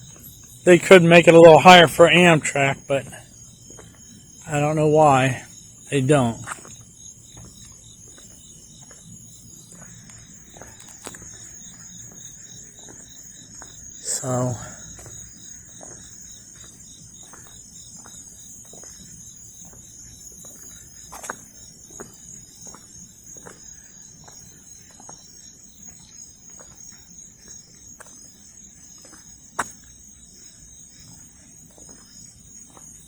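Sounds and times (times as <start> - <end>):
night insects chorus: 0.0 - 33.0.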